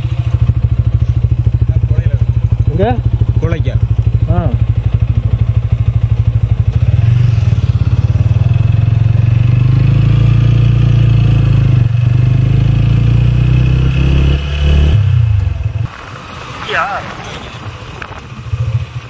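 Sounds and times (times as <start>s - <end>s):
motorcycle engine running: 0.0s - 15.9s, 16.9s - 19.0s.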